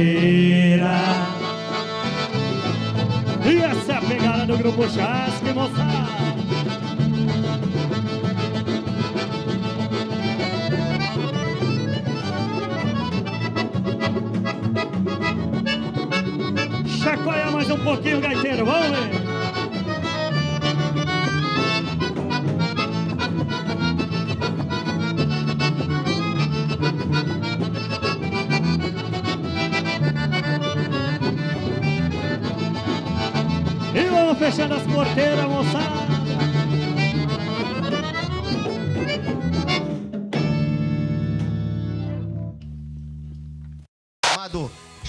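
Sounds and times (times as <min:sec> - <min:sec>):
band playing dance music: 0:00.0 - 0:42.0
accordion: 0:00.0 - 0:42.7.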